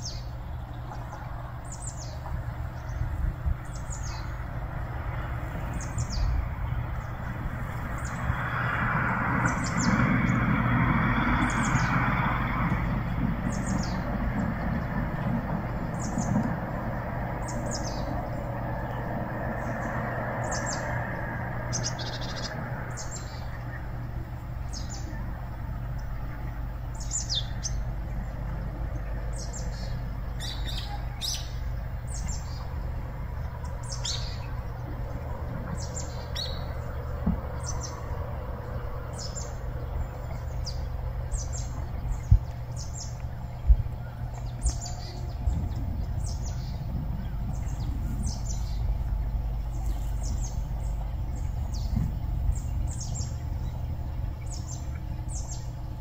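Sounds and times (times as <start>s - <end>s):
low rumble: 0.0s - 56.0s
small birds chirping: 0.0s - 56.0s.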